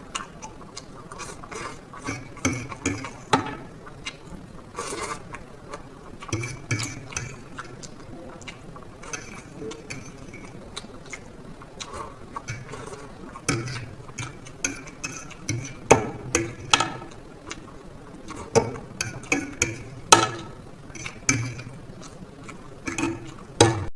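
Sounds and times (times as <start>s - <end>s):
wet chewing: 0.0s - 20.1s, 20.8s - 23.6s.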